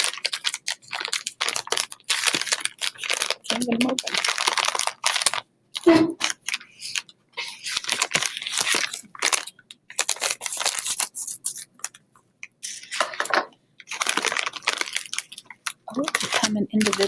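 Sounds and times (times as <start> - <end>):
candy wrapper crinkling and tearing: 0.0 - 17.0.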